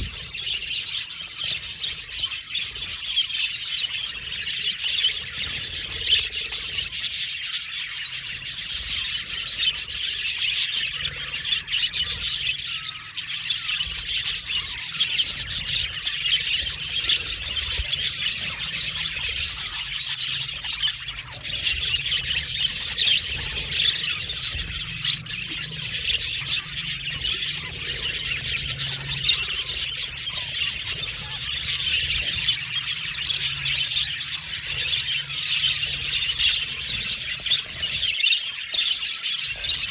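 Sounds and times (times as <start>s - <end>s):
flock of budgerigars chirping: 0.0s - 39.9s.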